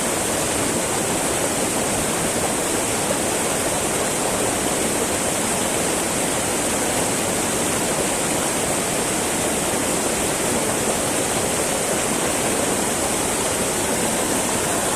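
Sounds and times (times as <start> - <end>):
river babbling over rocks: 0.0 - 14.9.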